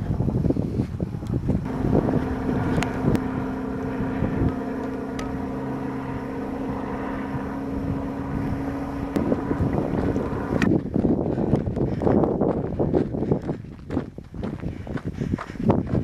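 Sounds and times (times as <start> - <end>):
wind buffeting microphone: 0.0 - 16.0
engine-like hum: 1.2 - 14.2.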